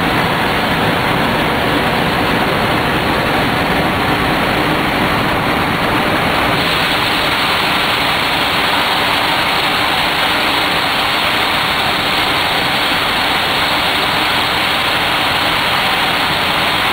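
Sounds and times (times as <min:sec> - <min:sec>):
truck engine and road noise: 0:00.0 - 0:16.9.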